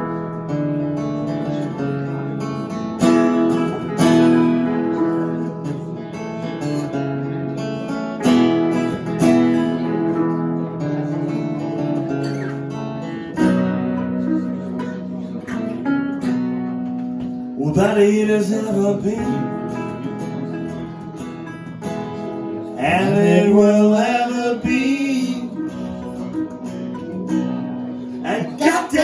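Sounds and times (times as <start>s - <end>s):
acoustic guitars strumming chords: 0.0s - 29.0s.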